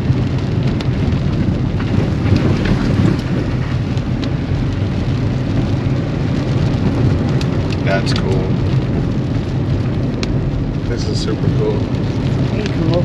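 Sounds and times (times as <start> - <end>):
engine and tyres rumble: 0.0 - 13.0
heavy rain on vehicle: 0.0 - 13.0
raindrops ticking sharply: 0.0 - 13.0.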